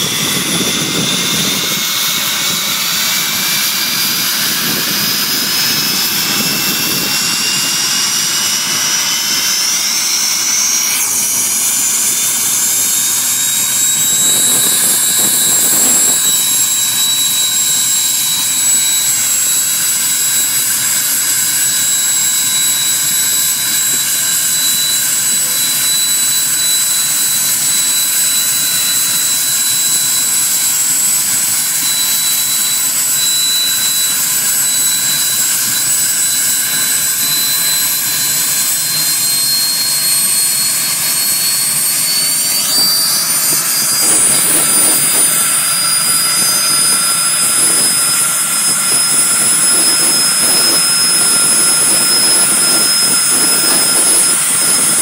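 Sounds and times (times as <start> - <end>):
jet engine turbine whine: 0.0 - 55.0
jet rush: 0.0 - 55.0.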